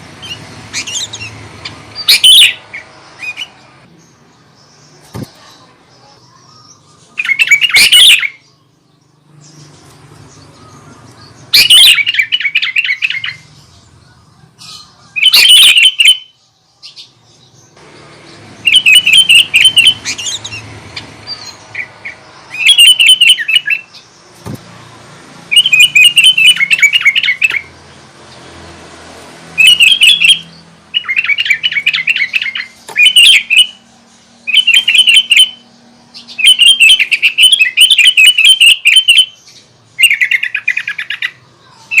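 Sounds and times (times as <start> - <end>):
bulbul singing: 0.0 - 42.0.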